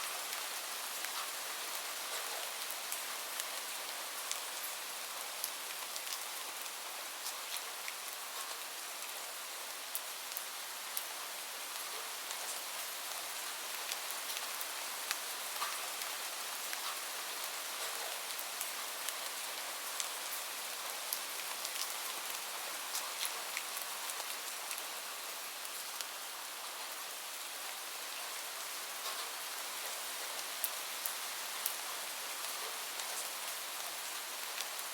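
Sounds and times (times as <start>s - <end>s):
gentle rain falling: 0.0s - 34.9s.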